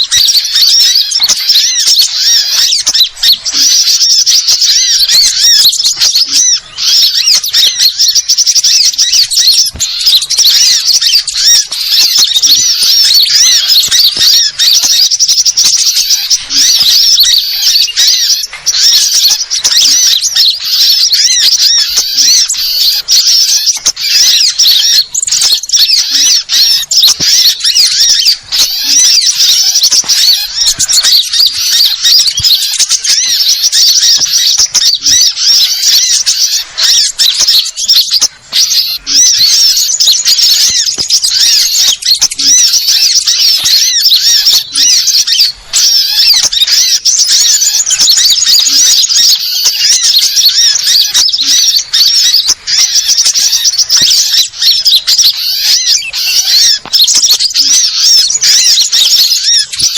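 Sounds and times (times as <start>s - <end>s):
small birds chirping and twittering: 0.0s - 59.9s.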